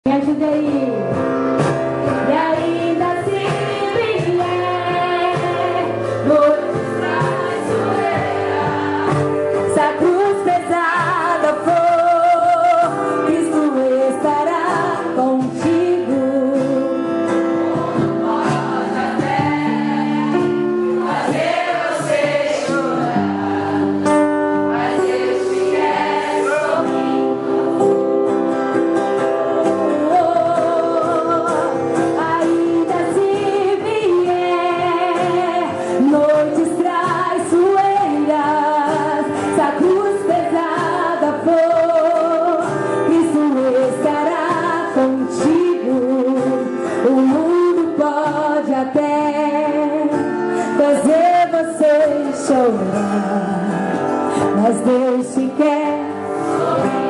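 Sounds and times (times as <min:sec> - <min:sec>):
voices singing gospel song: 0:02.0 - 0:57.0.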